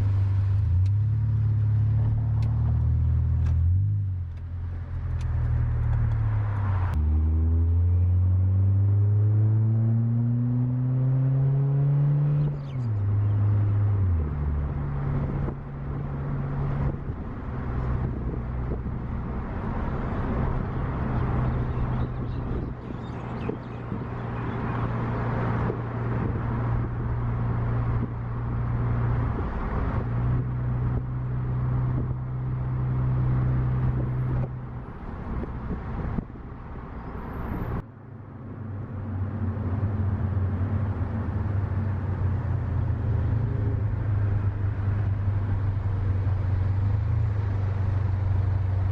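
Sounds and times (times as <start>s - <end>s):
car engine while driving: 0.0s - 48.9s
road noise: 0.0s - 48.9s.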